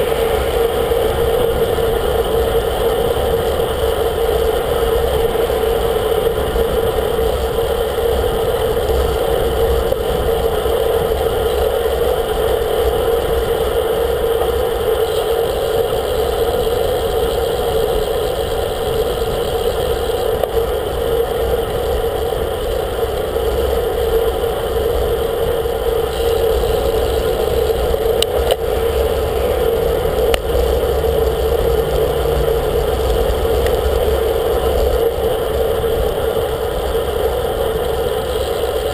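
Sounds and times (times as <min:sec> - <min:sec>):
constant hum: 0:00.0 - 0:38.9
wind buffeting microphone: 0:00.0 - 0:38.9.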